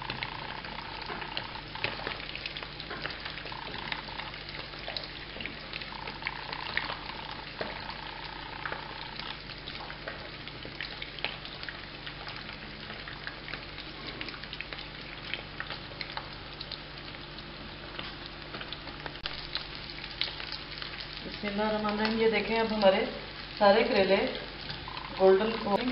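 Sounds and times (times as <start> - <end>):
oil sizzling in a pan: 0.0 - 25.9.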